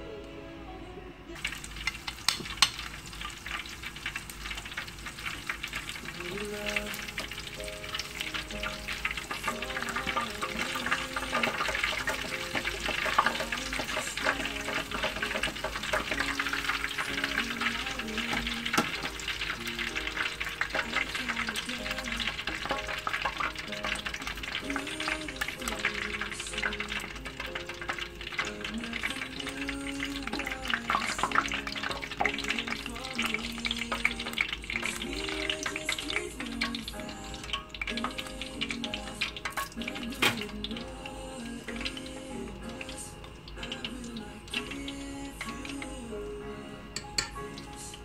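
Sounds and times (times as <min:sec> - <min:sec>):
food deep-frying in hot oil: 0:01.4 - 0:48.0.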